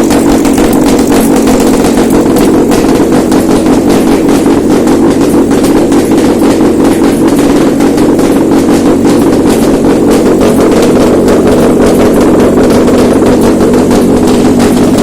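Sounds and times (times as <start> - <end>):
light engine ticking: 0.0 - 15.0
petrol engine idling: 0.0 - 15.0.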